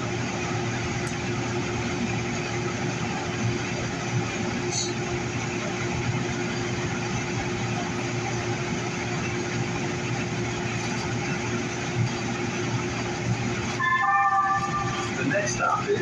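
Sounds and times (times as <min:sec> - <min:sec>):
light rail car running rumble: 0:00.0 - 0:16.0.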